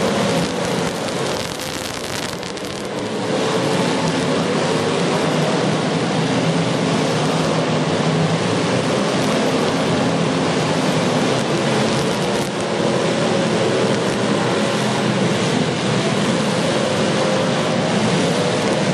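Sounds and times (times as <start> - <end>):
car engines running hard: 0.0 - 18.9.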